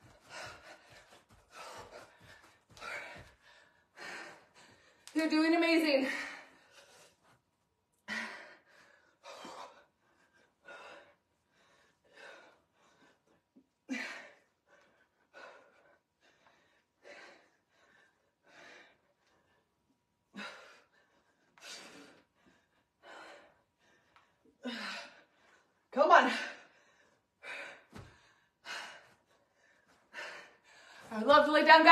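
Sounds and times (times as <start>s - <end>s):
woman breathing hard: 0.0s - 5.1s, 8.0s - 31.1s.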